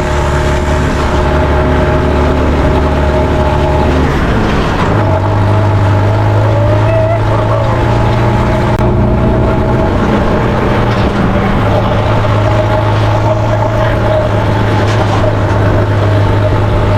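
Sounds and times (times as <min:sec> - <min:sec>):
engine whine: 0:00.0 - 0:16.9
tractor diesel engine droning: 0:00.0 - 0:16.9.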